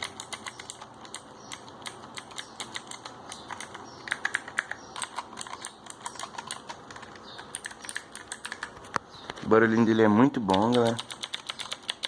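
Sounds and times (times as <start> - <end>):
mechanical keyboard key clicks: 0.0 - 8.8, 10.5 - 12.0.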